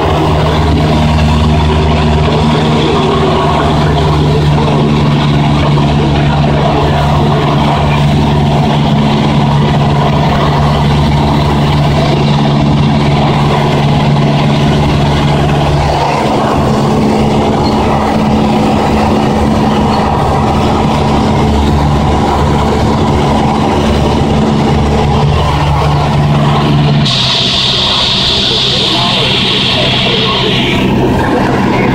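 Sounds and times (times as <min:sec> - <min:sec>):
light aircraft engine drone in cabin: 0:00.0 - 0:31.9.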